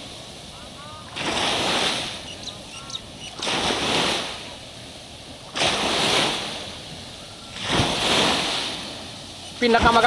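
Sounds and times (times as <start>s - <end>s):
waves breaking on beach: 0.0s - 10.0s.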